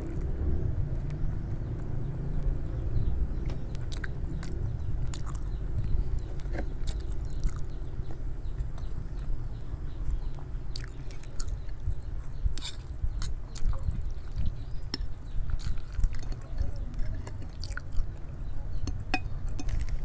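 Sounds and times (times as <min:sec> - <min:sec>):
person chewing food: 0:00.0 - 0:02.6, 0:03.7 - 0:09.3, 0:10.0 - 0:11.8, 0:12.6 - 0:20.0
low steady hum: 0:00.0 - 0:20.0.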